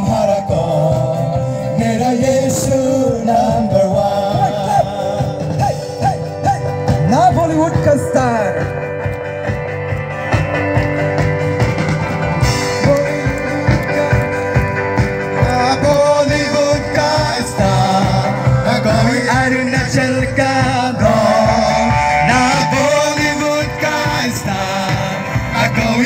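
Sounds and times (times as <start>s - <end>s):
worship song with singing and drums: 0.0s - 26.0s.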